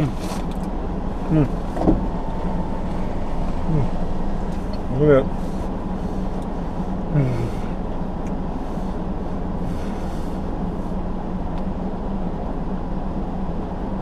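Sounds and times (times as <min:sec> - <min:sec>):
low rumble and hum in car cabin: 0:00.0 - 0:14.0.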